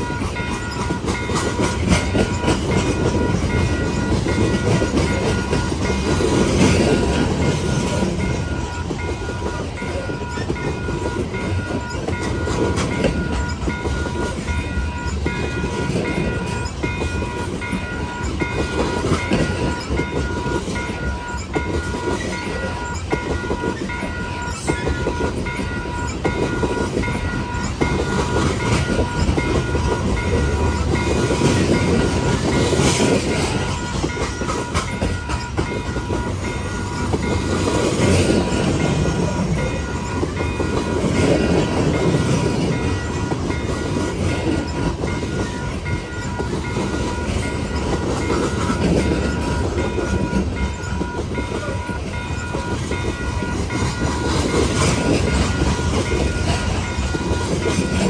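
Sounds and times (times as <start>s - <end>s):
train wheels rumbling and clicking: 0.0s - 58.0s.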